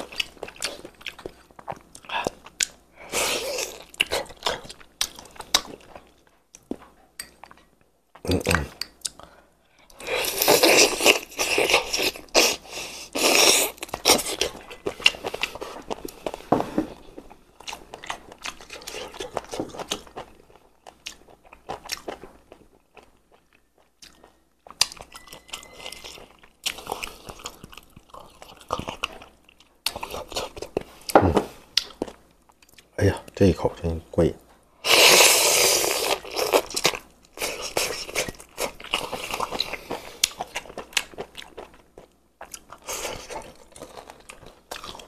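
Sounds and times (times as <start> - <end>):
chewing and crunching: 0.0 - 33.3, 35.5 - 45.0.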